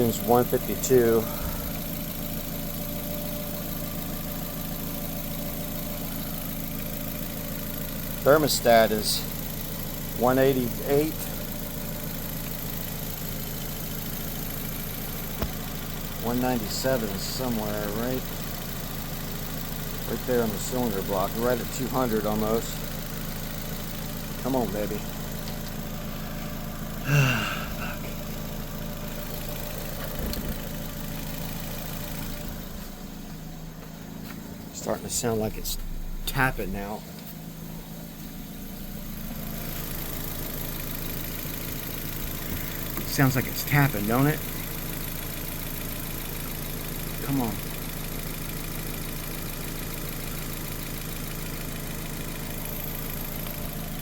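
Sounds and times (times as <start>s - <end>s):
car engine idling: 0.0s - 54.0s
light tapping from engine: 0.0s - 54.0s.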